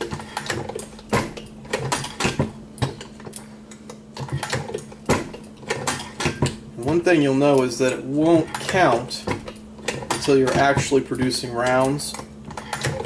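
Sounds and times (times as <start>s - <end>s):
reloading press clicks and clanks: 0.0s - 13.0s.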